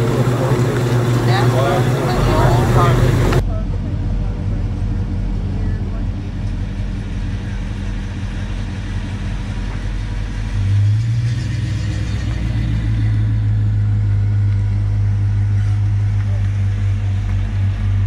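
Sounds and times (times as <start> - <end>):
car engines rumbling: 0.0 - 18.0
low exhaust rumble: 0.0 - 18.0.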